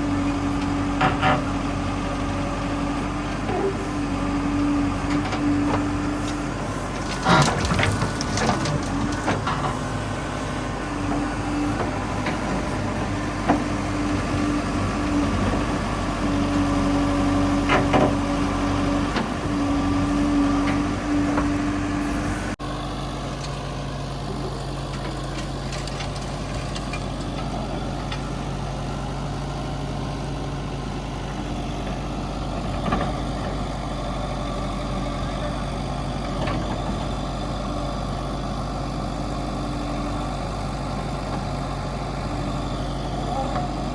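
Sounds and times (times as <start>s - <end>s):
heavy machinery diesel engine: 0.0s - 43.9s.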